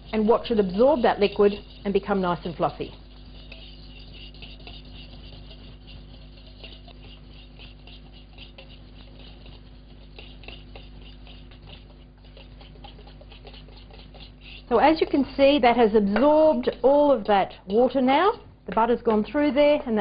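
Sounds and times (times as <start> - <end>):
fork scraping a steel bowl: 0.0 - 19.4.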